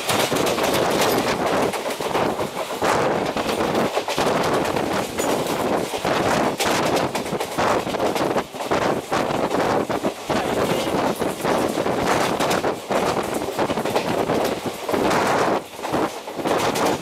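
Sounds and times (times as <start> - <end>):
train wheels clattering on track: 0.0 - 17.0
wind rushing past: 0.2 - 17.0.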